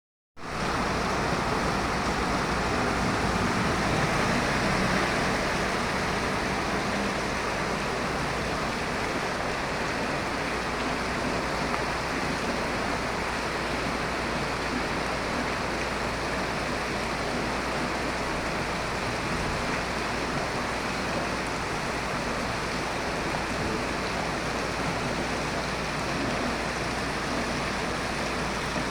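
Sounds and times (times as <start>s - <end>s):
driving rain: 0.4s - 28.9s.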